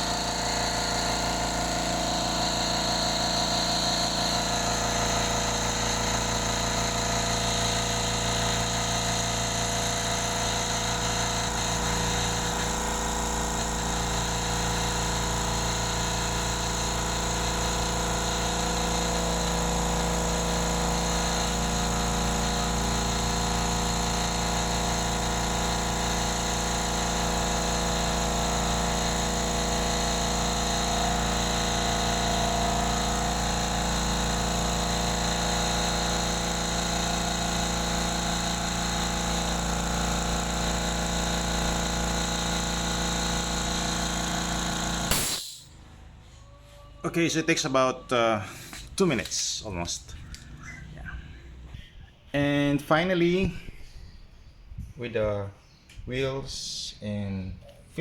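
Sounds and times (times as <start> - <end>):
air compressor running: 0.0 - 46.4, 47.2 - 52.7.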